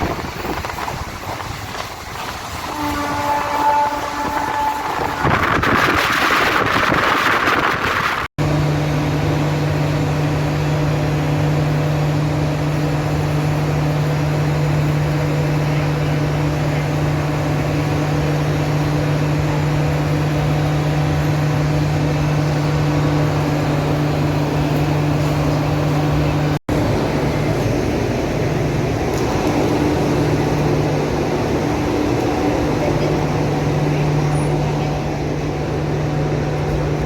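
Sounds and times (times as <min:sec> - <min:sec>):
loud train noise: 0:00.0 - 0:37.0
train engine humming: 0:00.0 - 0:37.0.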